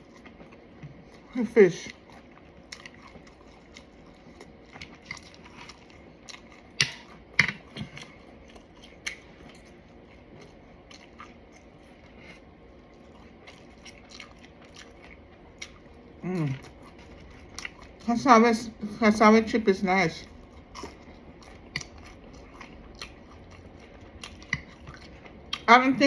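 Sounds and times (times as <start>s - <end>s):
crunching and chewing food: 0.0s - 18.8s, 20.2s - 26.0s.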